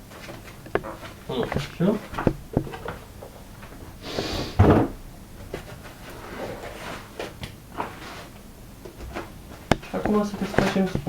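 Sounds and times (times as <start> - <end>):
knocks and rubs of cardboard: 0.1 - 7.1, 8.9 - 11.0.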